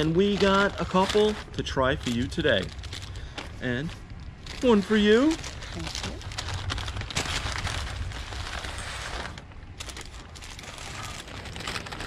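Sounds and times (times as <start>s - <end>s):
paper rustling and crinkling: 0.0s - 12.0s
low rumble: 1.3s - 12.0s.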